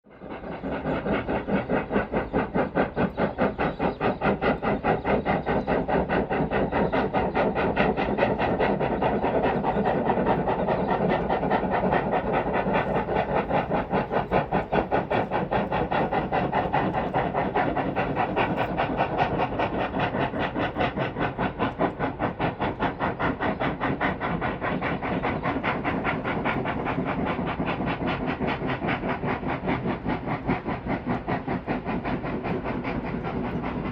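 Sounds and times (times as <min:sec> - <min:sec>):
steam locomotive exhaust beats: 0:00.0 - 0:33.9
steam hiss: 0:00.1 - 0:33.9.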